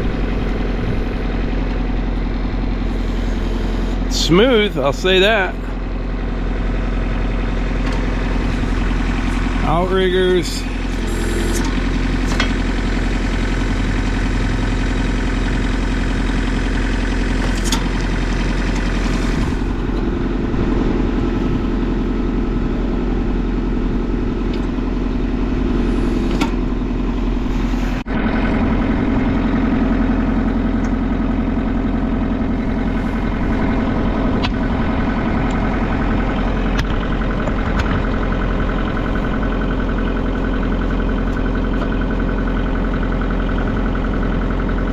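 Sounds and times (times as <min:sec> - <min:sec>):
hydraulics working: 0:00.0 - 0:44.9
tractor diesel engine running: 0:00.0 - 0:44.9.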